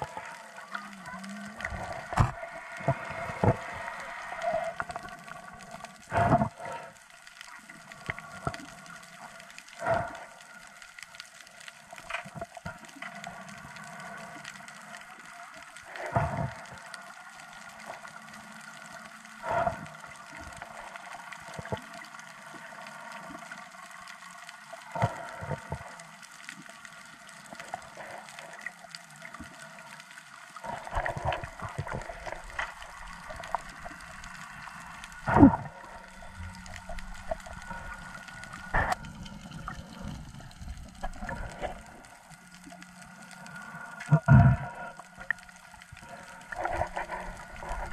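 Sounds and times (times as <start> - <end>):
water gurgling and sloshing underwater: 0.0 - 47.9.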